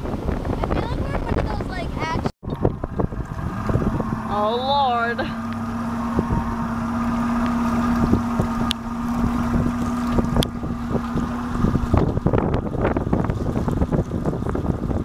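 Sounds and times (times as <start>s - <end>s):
outboard motor humming: 0.0s - 15.0s
water noise: 0.0s - 15.0s
wind buffeting microphone: 0.0s - 15.0s.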